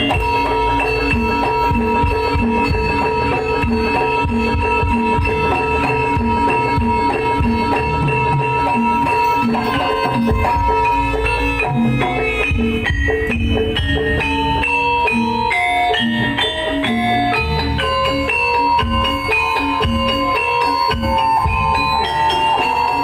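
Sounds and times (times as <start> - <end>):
gamelan metallophones ringing: 0.0 - 23.0
hand drums beating: 0.0 - 23.0.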